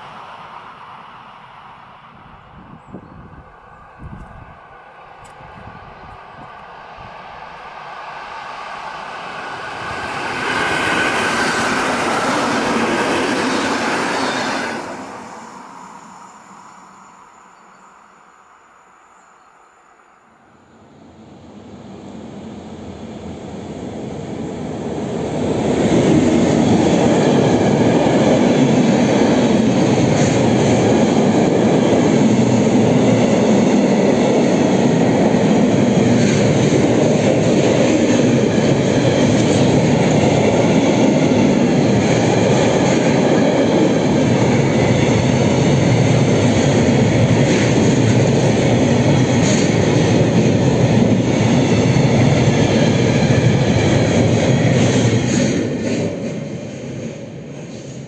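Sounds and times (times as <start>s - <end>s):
train wheels rumbling on rail: 0.0s - 17.2s, 20.8s - 58.0s
electric locomotive passing: 0.0s - 58.0s.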